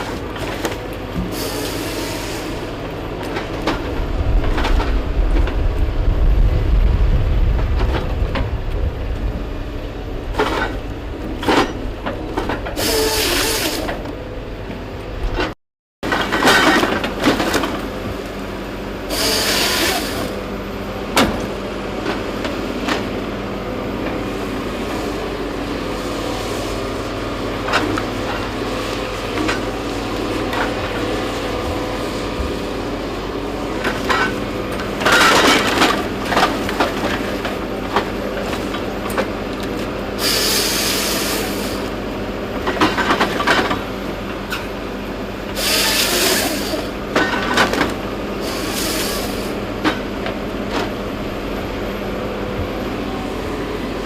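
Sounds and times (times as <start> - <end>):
heavy machine engine running: 0.0 - 54.0.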